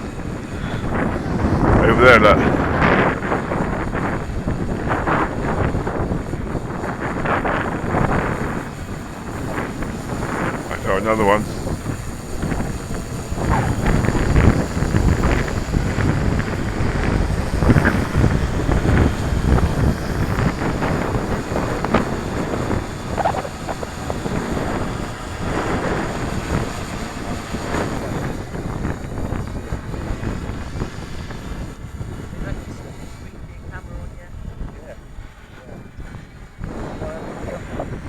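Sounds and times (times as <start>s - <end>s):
gusty wind buffeting microphone: 0.0s - 38.0s.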